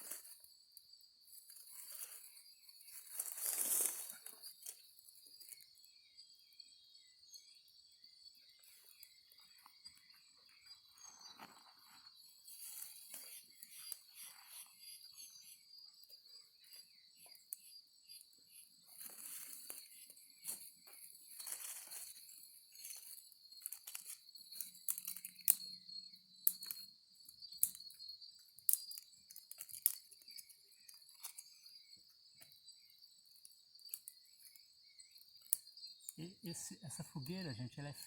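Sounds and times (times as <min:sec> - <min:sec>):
insect trill: 0:00.0 - 0:38.0.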